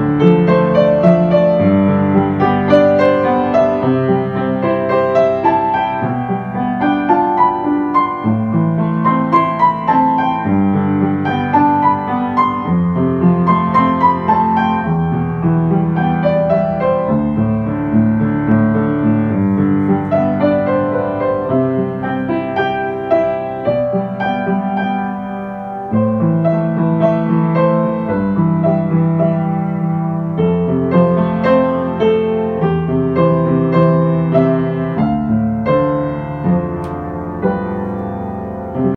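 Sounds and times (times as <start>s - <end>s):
ambient piano music: 0.0s - 38.9s.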